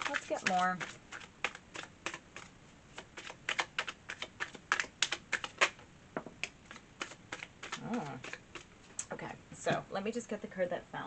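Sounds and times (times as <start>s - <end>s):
cards being shuffled: 0.0s - 9.1s.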